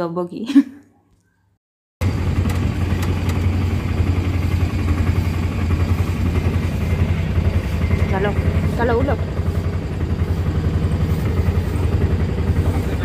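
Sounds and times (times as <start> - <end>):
auto-rickshaw engine droning: 2.0 - 13.0.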